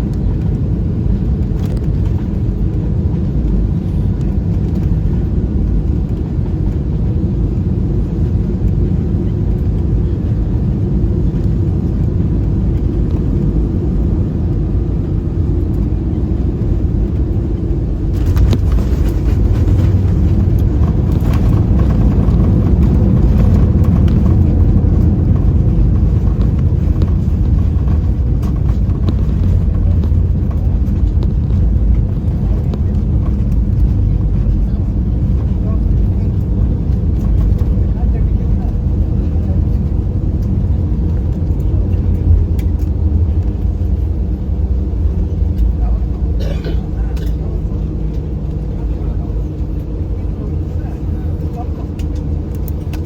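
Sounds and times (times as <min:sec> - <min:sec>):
aircraft cabin engine rumble: 0:00.0 - 0:53.0.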